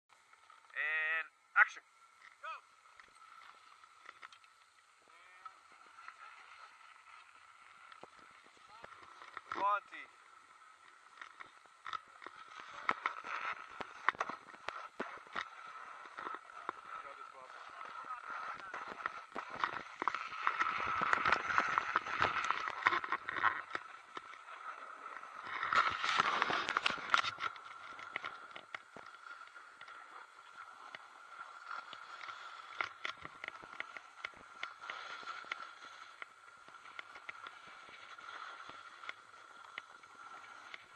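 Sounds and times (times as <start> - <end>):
small ticks and clicks: 2.0 - 40.9
skis scraping over snow: 2.4 - 40.9.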